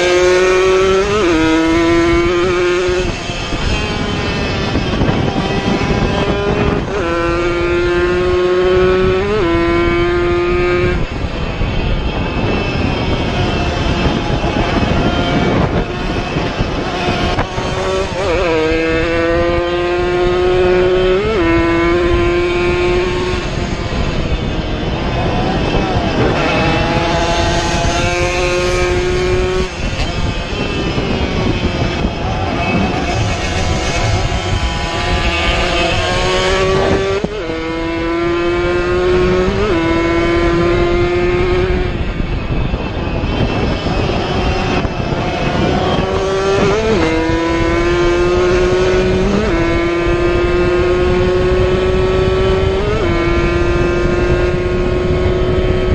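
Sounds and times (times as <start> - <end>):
racing motorcycles passing: 0.0 - 55.9.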